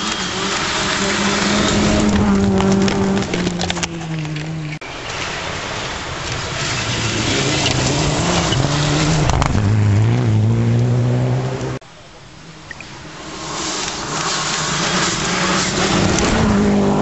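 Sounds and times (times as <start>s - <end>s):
tyres on gravel: 0.0s - 11.0s, 11.6s - 17.0s
rally car engine at full throttle: 0.0s - 11.8s, 12.4s - 17.0s
outdoor background: 0.0s - 17.0s.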